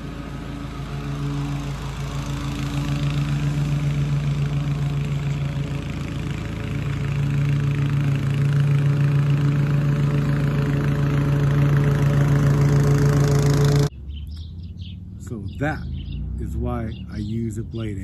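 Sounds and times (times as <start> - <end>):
lawn mower running: 0.0 - 18.0.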